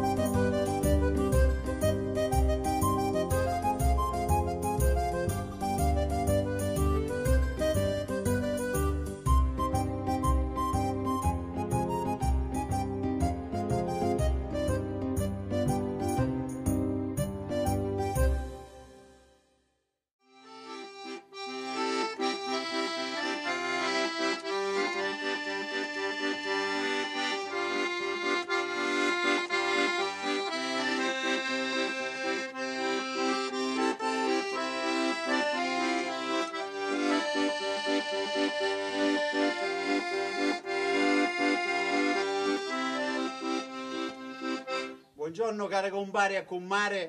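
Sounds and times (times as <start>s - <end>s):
piano accordion melody: 0.0s - 19.4s, 20.2s - 45.7s.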